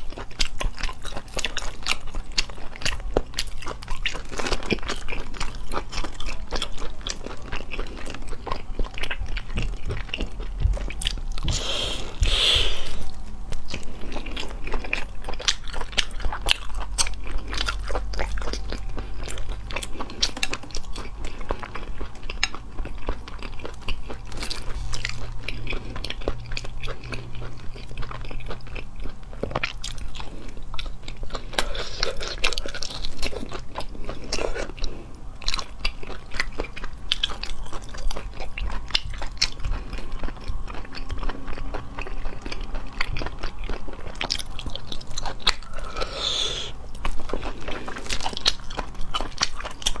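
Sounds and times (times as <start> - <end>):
chewing and biting food: 0.0 - 50.0.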